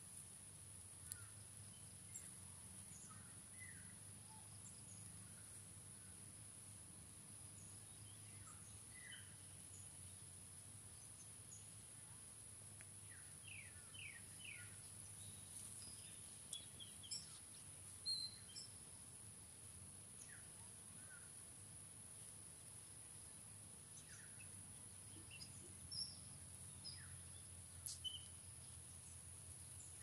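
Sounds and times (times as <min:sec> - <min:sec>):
small birds chirping: 0:00.0 - 0:06.5, 0:07.2 - 0:30.0
faint high hiss: 0:00.0 - 0:30.0.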